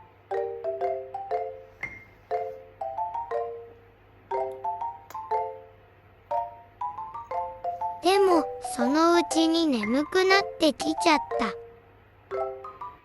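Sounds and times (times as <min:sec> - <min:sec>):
bouncy mallet percussion melody: 0:00.0 - 0:13.0.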